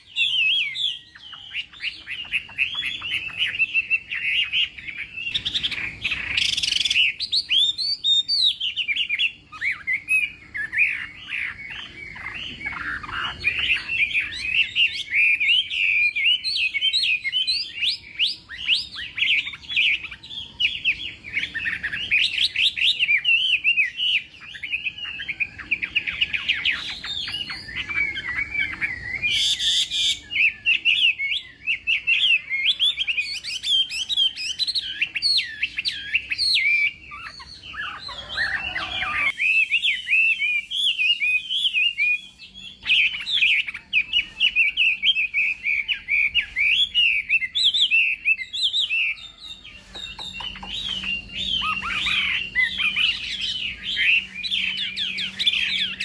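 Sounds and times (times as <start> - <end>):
thrush singing whistled trills: 0.0 - 56.0.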